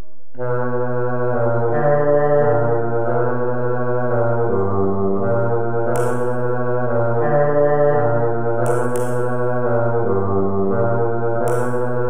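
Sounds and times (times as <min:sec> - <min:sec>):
droning chords music: 0:00.4 - 0:12.0.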